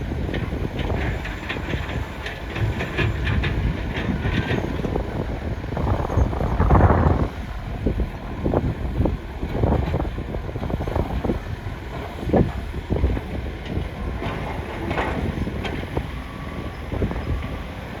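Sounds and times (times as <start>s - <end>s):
excavator knocks and clatters: 0.0s - 7.3s, 8.4s - 18.0s
excavator rumbling: 0.0s - 18.0s
wind buffeting microphone: 0.0s - 18.0s.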